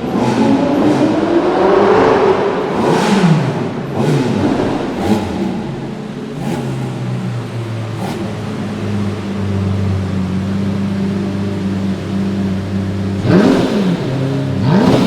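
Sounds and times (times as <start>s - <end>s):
car engine revving in tunnel: 0.0s - 15.0s.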